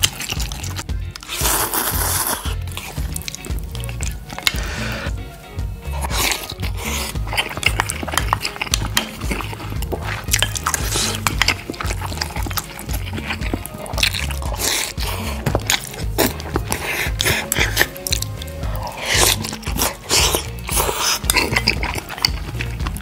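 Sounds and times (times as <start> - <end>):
background music: 0.0 - 23.0
chewing with mouth clicks: 0.0 - 23.0
slurping broth: 0.0 - 23.0.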